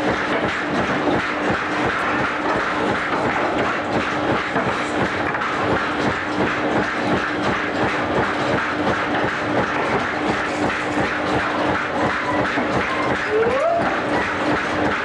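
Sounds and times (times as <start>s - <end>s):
constant machine hum: 0.0s - 15.0s
machinery clattering: 0.0s - 15.0s.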